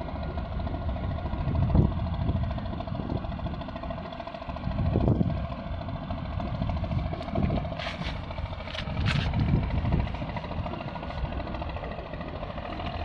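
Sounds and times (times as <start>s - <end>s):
boat diesel engine running: 0.0s - 13.0s.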